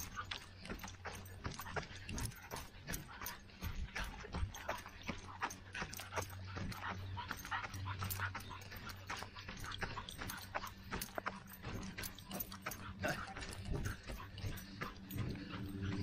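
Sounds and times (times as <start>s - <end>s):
footsteps running on dirt trail: 0.0s - 16.0s.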